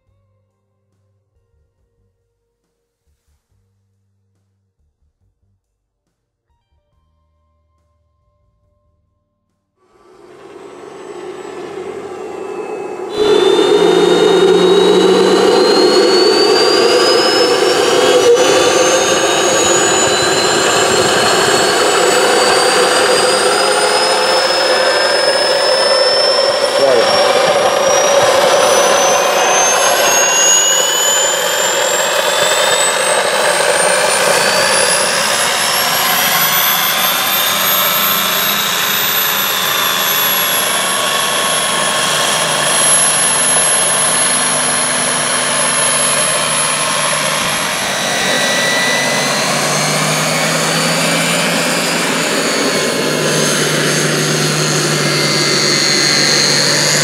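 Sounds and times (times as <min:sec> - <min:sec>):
low engine drone: 0:09.8 - 0:57.0
model jet engine whining: 0:09.8 - 0:57.0.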